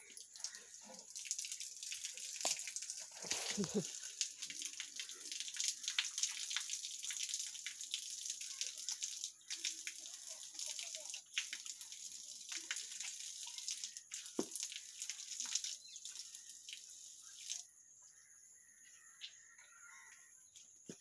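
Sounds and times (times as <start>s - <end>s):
cow urine splashing on dirt: 0.0s - 17.7s.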